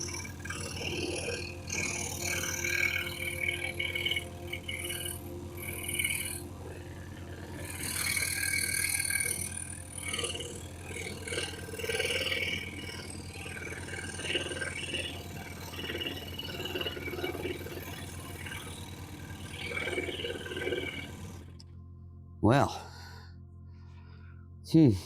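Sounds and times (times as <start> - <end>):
scroll saw humming: 0.0 - 21.6.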